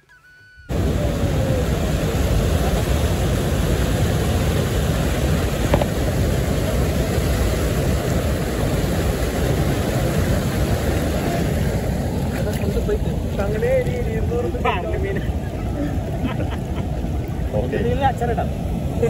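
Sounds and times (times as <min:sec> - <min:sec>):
river water rushing over a dam: 0:00.7 - 0:19.0.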